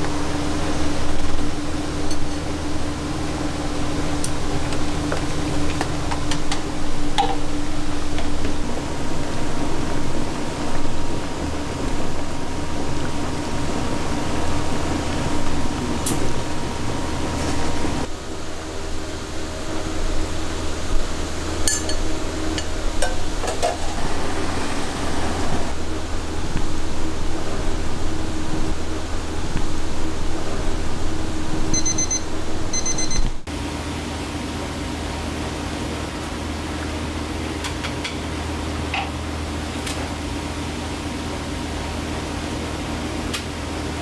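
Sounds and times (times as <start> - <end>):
kitchen machinery hum and hiss: 0.0 - 44.0.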